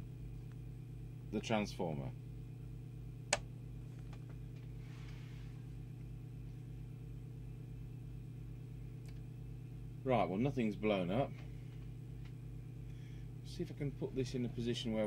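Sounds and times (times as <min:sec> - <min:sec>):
pulsing mains hum: 0:00.0 - 0:15.0.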